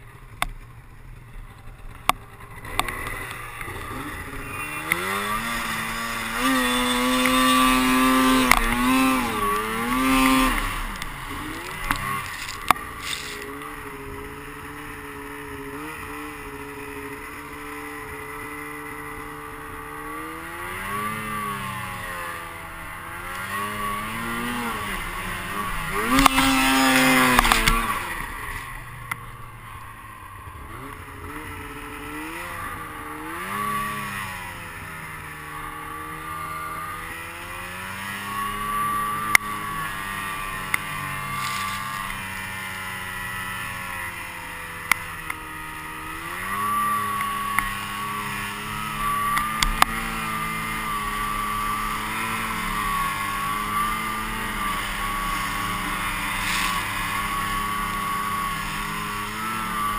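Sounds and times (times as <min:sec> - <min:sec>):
snowmobile engine: 0:00.0 - 0:59.9.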